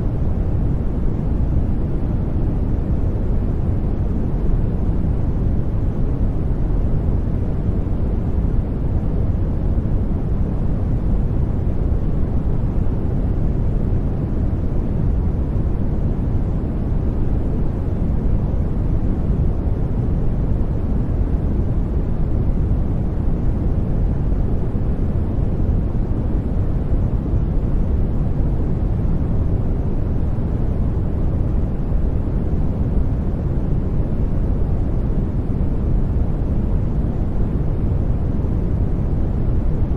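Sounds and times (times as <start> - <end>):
low brown noise hiss: 0.0 - 39.9.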